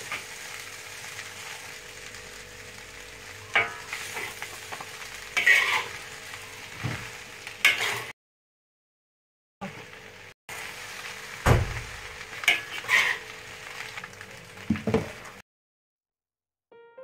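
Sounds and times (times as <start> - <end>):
rice sizzling in a wok: 0.0 - 8.2, 9.6 - 15.4.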